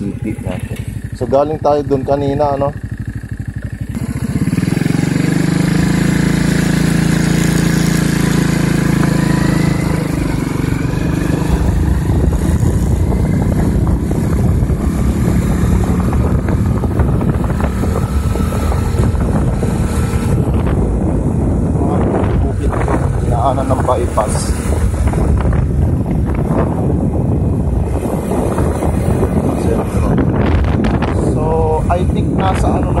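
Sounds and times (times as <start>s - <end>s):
vehicle engine speeding up: 0.0s - 33.0s
wind buffeting microphone: 0.0s - 33.0s.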